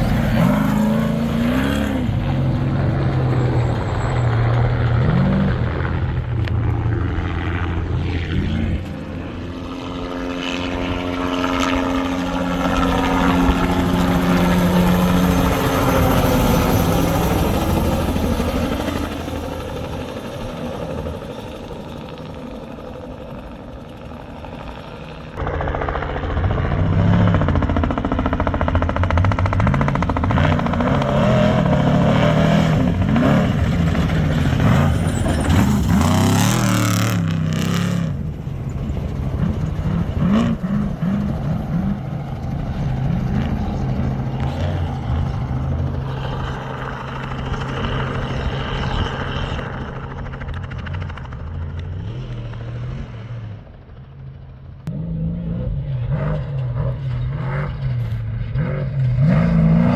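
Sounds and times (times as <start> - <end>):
engine revving: 0.0 - 22.2, 24.8 - 54.1, 54.8 - 59.9.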